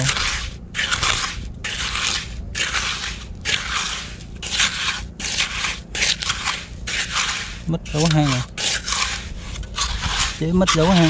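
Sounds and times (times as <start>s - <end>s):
digging in wet sand: 0.0s - 11.0s.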